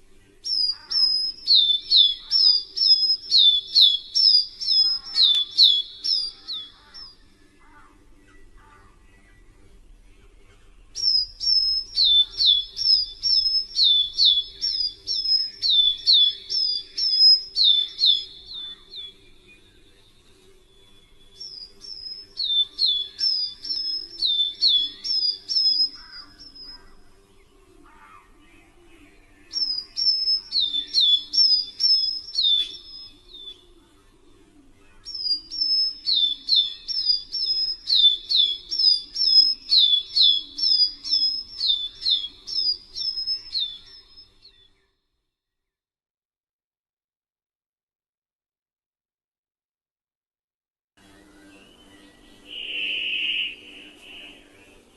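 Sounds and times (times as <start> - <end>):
songbird singing: 0.0 - 45.0, 51.0 - 54.9.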